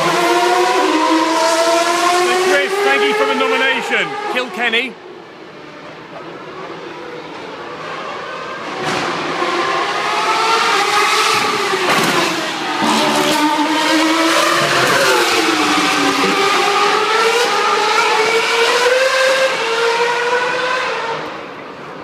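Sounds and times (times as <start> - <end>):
racing car engines at high revs: 0.0 - 22.0.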